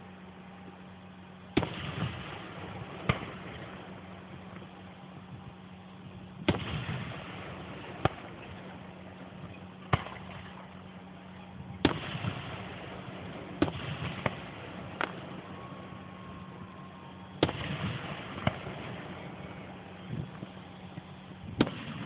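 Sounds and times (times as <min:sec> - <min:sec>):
fireworks crackle: 0:00.0 - 0:22.0
steady low hum: 0:00.0 - 0:22.0
fireworks bangs: 0:01.5 - 0:22.0.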